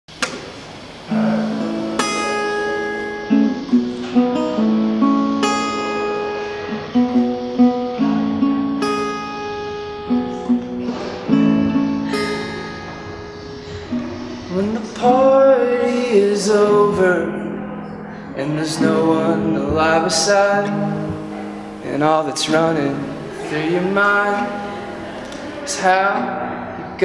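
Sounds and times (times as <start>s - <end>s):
acoustic guitar playing: 0.2s - 27.0s.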